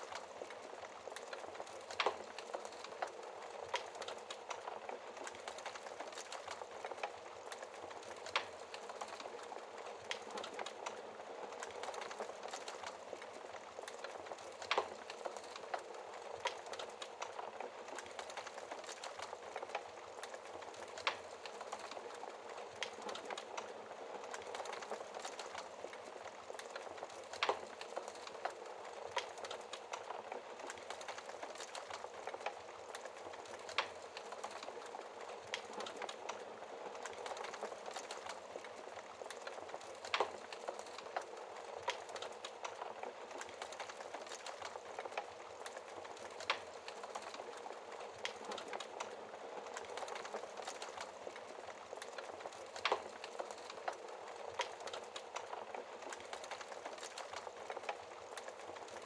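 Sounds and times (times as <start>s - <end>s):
fire popping: 0.0s - 59.0s
wood fire crackling: 0.0s - 59.0s.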